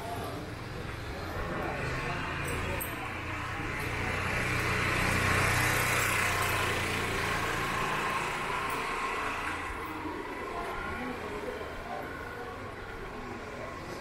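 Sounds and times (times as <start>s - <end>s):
vehicle engine passing by: 1.1s - 14.0s.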